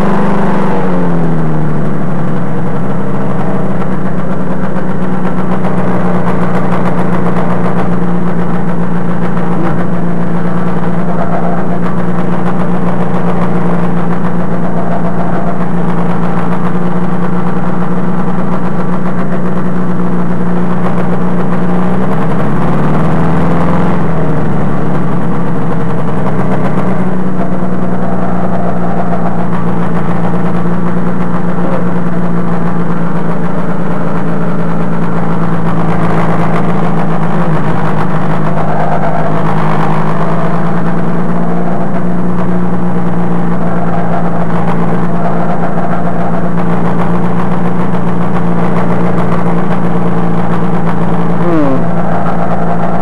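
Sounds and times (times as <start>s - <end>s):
two-stroke engine running: 0.0s - 53.0s.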